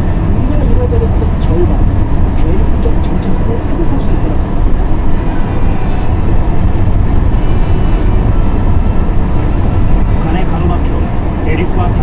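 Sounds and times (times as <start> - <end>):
car engine rumble: 0.0 - 12.0
tyres on snowy road: 0.0 - 12.0.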